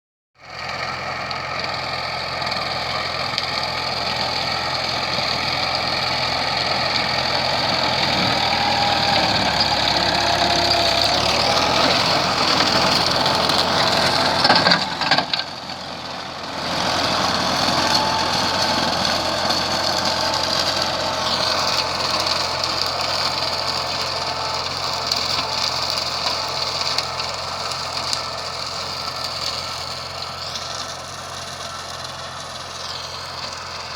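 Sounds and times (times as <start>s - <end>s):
tractor diesel engine roaring: 0.4s - 33.9s.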